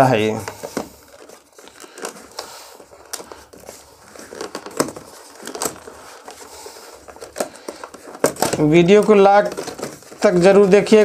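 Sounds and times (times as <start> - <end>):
cardboard box rustling and clicking: 0.2 - 11.0.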